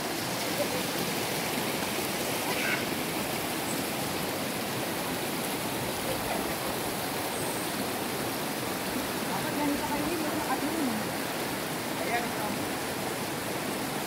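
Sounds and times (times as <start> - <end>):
stream rushing over boulders: 0.0 - 14.0.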